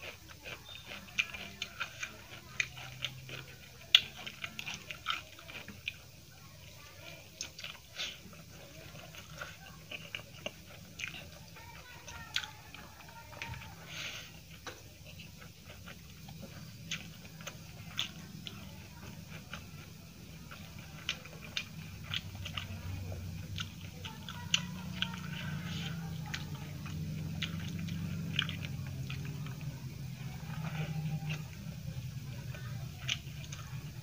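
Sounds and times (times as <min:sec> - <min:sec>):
wet chewing mouth clicks: 0:00.0 - 0:06.2, 0:07.2 - 0:34.0
low steady hum: 0:00.0 - 0:34.0.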